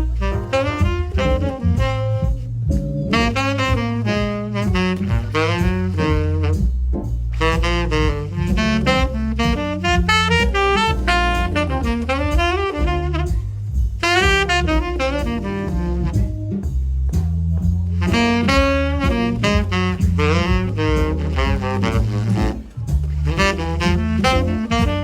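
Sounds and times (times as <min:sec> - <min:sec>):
drums: 0:00.0 - 0:25.0
tenor saxophone jazz solo: 0:00.0 - 0:25.0
walking bass: 0:00.0 - 0:25.0.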